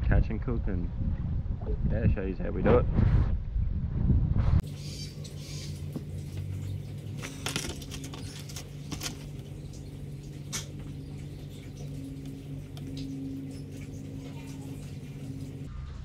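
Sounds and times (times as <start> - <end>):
low hum: 0.8 - 16.0.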